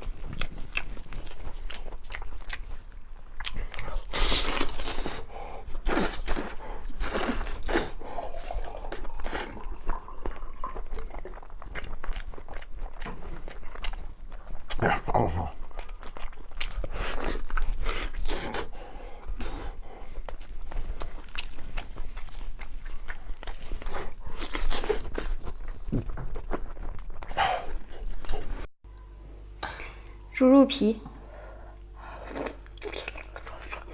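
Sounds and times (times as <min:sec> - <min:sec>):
person chewing and crunching: 0:00.0 - 0:28.6, 0:32.2 - 0:33.9.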